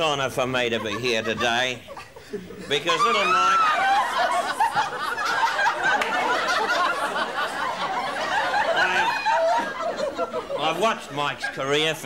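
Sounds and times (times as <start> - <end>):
studio audience laughing: 0.3 - 12.0.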